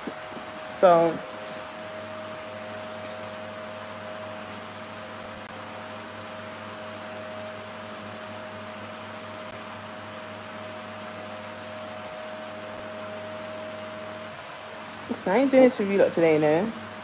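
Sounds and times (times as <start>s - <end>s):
appliance motor humming: 0.0s - 17.0s.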